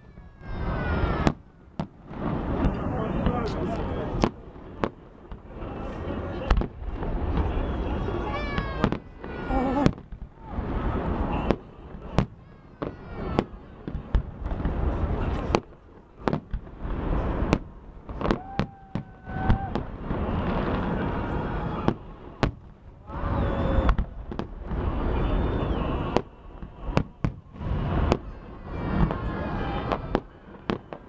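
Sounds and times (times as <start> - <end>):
fireworks bangs: 0.0 - 31.0
fireworks whistles: 0.4 - 31.0.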